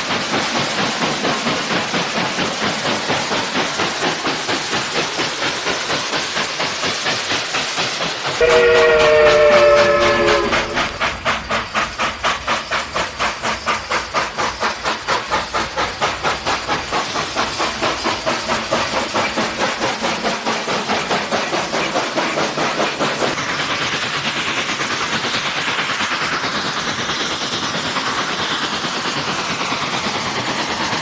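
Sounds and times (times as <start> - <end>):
steam locomotive exhaust chuffing: 0.0 - 31.0.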